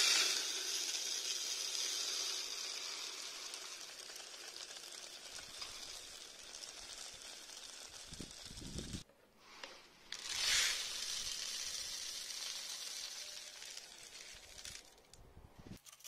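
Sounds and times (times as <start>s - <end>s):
grain pouring into plastic dish: 0.0s - 9.0s, 10.1s - 15.1s.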